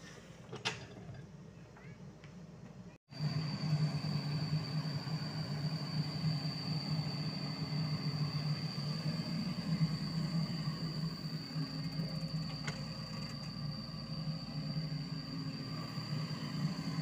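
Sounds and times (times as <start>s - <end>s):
high whine: 3.1s - 17.0s
excavator diesel engine running: 3.2s - 17.0s.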